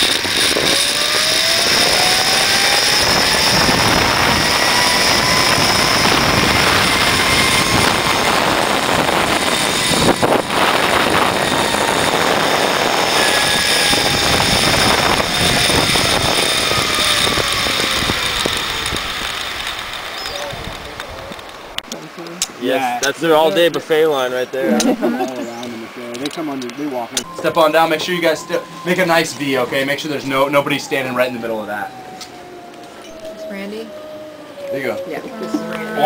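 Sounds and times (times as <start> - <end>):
wind rushing: 0.0 - 21.8, 27.2 - 34.6
zipline pulleys whirring on cable: 0.0 - 21.8, 27.2 - 36.0.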